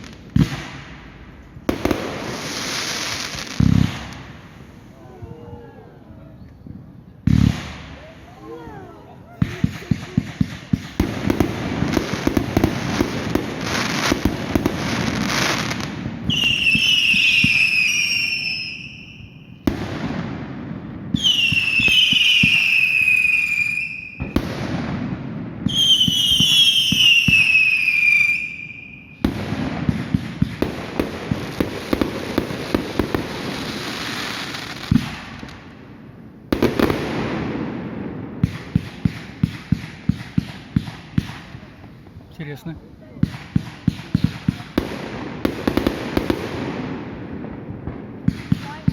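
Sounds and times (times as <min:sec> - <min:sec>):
fireworks crackling and popping: 0:00.0 - 0:05.7, 0:06.4 - 0:48.9.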